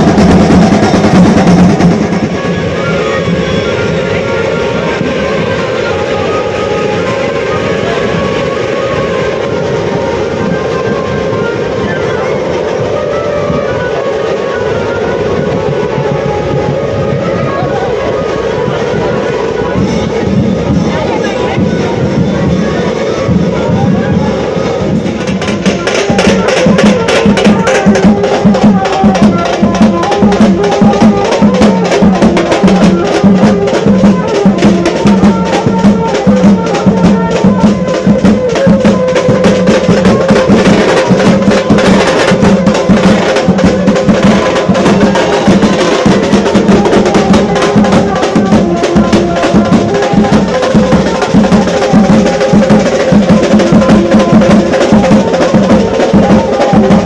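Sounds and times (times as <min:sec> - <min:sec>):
drum troupe beating fast rhythm: 0:00.0 - 0:57.0.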